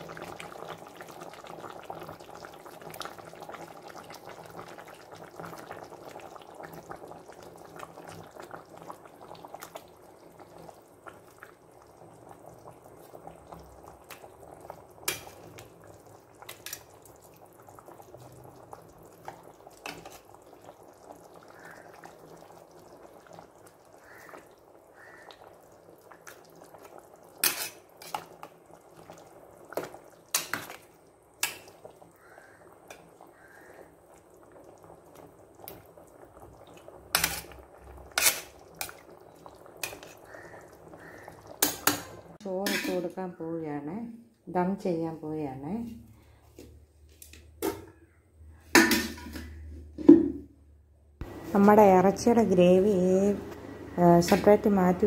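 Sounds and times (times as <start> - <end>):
gravy bubbling in a pot: 0.0 - 50.1, 51.2 - 55.0.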